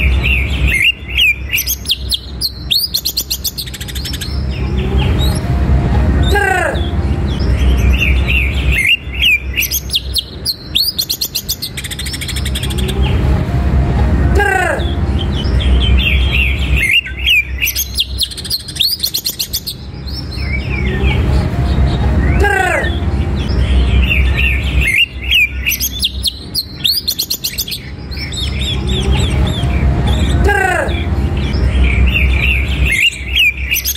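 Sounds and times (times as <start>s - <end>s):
bird warbling song: 0.0s - 5.5s, 6.2s - 13.4s, 14.6s - 33.9s.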